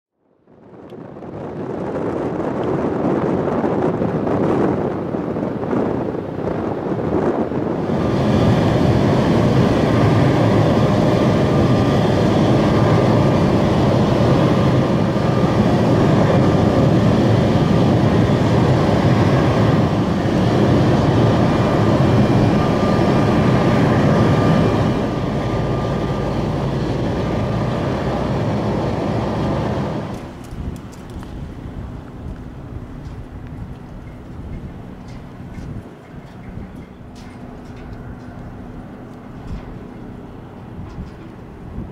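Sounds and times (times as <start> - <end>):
high engine whine: 0.3 - 41.9
turboprop engines droning: 0.3 - 41.9.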